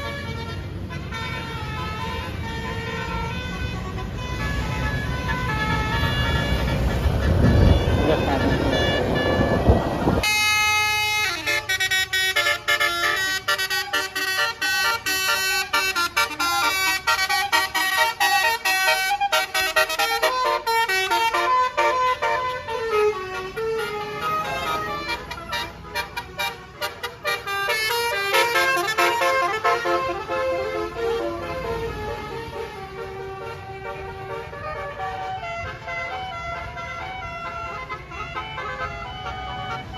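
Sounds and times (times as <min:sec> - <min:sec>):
bus air horn melody: 0:00.0 - 0:39.9.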